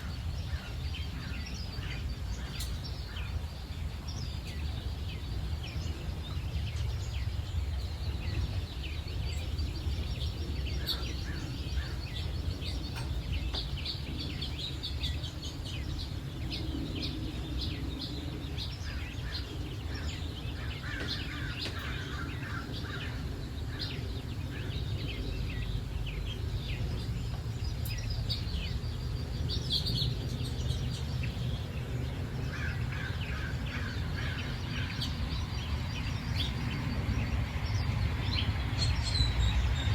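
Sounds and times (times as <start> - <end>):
birds chirping and trilling: 0.0 - 39.9
steady low rumble: 0.0 - 39.9.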